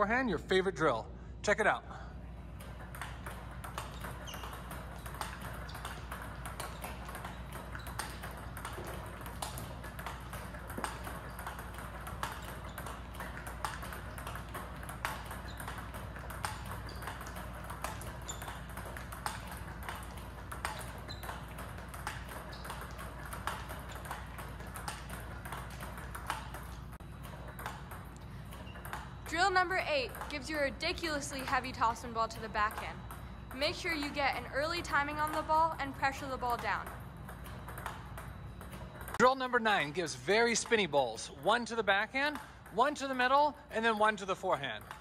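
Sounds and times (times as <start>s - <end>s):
table tennis ball bouncing: 2.4s - 45.0s.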